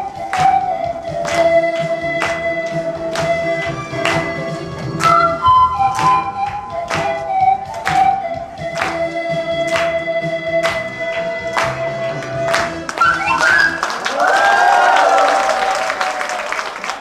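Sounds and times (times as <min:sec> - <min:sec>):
backing track with steady beat: 0:00.0 - 0:13.8
pan flute ensemble melody: 0:00.0 - 0:16.3.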